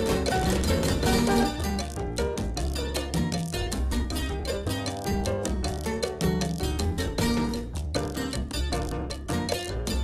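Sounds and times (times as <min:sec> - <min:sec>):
music with quick short notes: 0:00.0 - 0:10.0.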